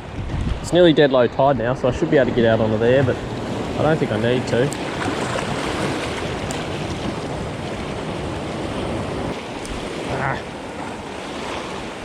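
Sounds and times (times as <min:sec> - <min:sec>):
surf rushing over rocks: 0:00.0 - 0:12.0.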